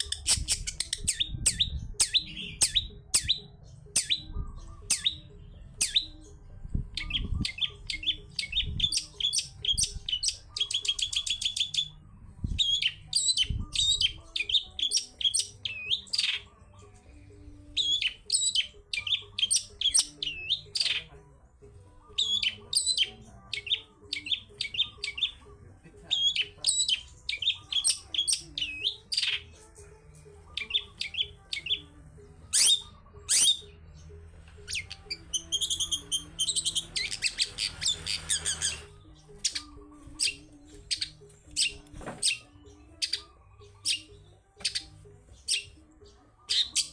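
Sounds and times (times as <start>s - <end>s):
shrike singing chattering song: 0.0s - 21.2s, 21.8s - 46.9s.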